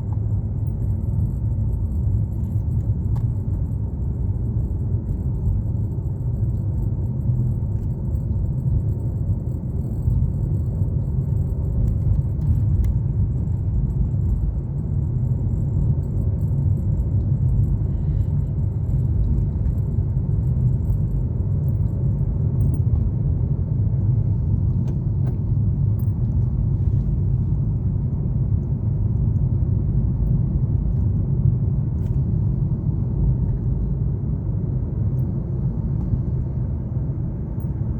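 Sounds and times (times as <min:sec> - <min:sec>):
engine and tyre rumble: 0:00.0 - 0:37.9.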